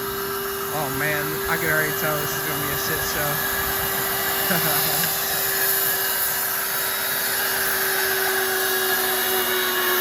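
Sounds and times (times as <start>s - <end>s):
machine motor whining: 0.0s - 10.0s.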